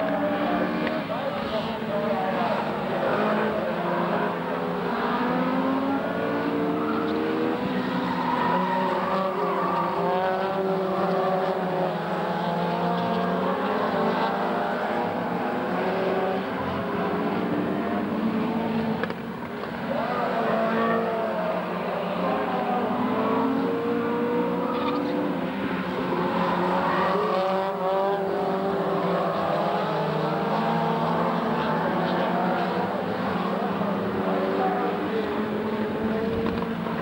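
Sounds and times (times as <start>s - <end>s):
race car engines revving: 0.0s - 37.0s.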